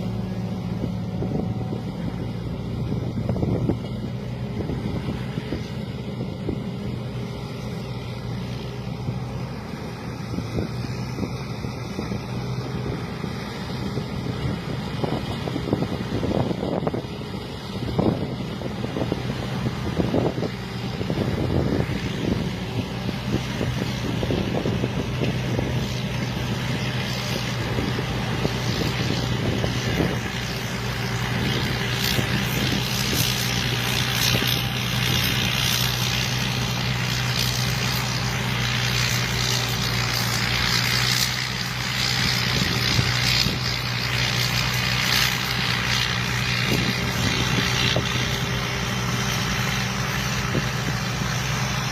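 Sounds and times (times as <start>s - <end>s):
combine harvester engine drone: 0.0s - 51.9s.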